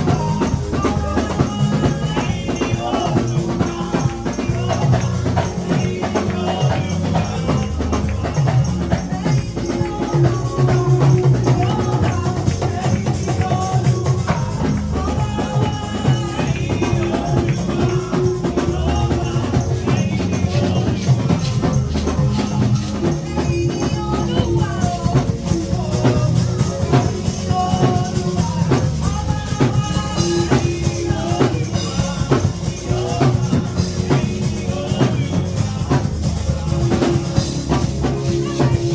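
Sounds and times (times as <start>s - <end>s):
bass line: 0.0s - 38.9s
drums: 0.0s - 38.9s
shaken tambourine: 0.0s - 38.9s
voices singing: 0.0s - 38.9s.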